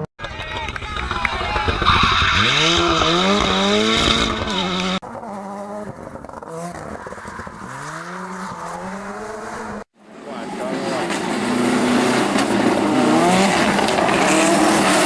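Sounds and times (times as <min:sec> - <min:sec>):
rally car engine revving: 0:00.8 - 0:15.0.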